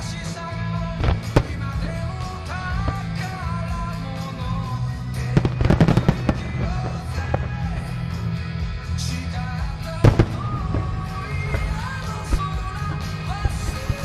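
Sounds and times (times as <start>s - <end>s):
firework bangs and crackles: 0.0s - 14.0s
rock song with singing: 0.0s - 14.0s.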